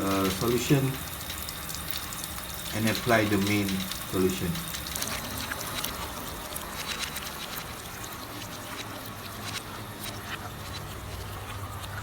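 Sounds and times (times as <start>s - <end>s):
water dripping and splashing: 0.0s - 12.0s
water trickling: 0.0s - 12.0s.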